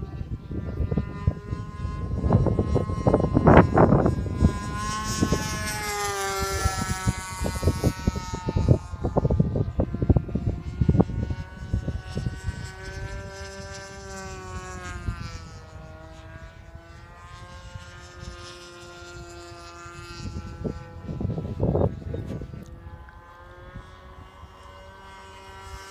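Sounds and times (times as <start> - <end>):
model airplane motor droning: 0.0 - 25.9
wind buffeting microphone: 0.0 - 25.9.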